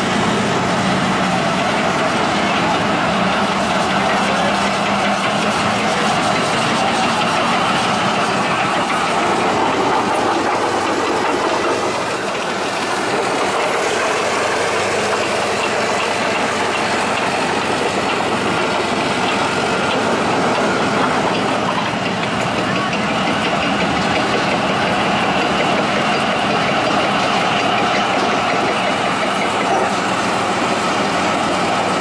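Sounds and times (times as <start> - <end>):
steel tracks clattering: 0.0 - 32.0
tank diesel engine running: 0.0 - 32.0.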